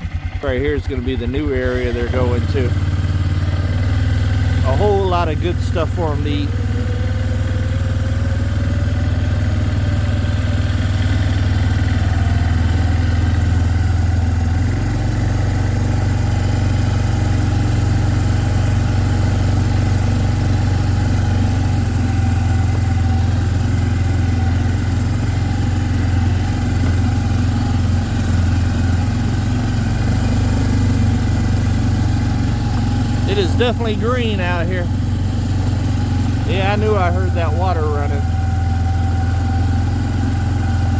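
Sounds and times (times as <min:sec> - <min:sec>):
small vehicle engine running: 0:00.0 - 0:40.9.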